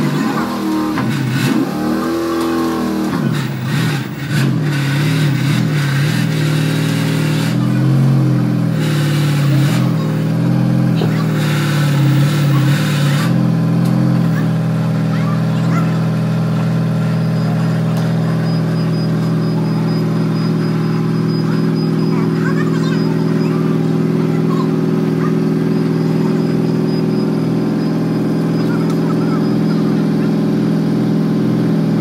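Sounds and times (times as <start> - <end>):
race car engine idling: 0.0 - 32.0.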